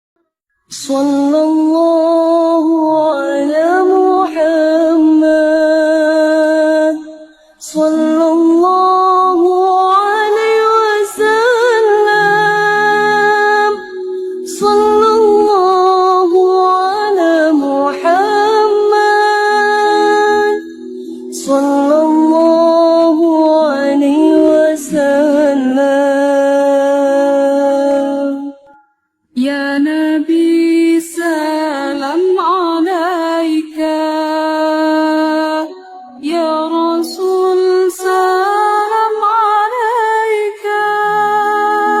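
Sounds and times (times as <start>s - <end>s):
person singing devotional chant: 0.7s - 42.0s.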